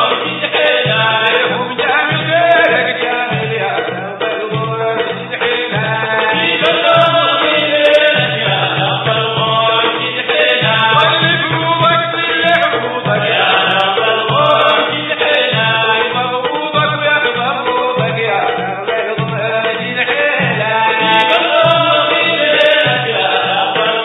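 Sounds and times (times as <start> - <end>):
religious chant singing: 0.0 - 24.0.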